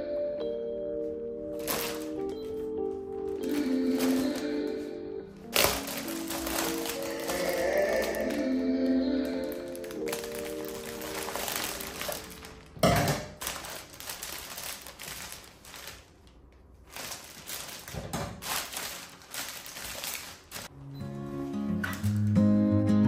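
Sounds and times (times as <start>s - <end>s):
wrapping paper crinkling: 1.6s - 4.8s, 5.4s - 20.7s, 21.8s - 22.4s.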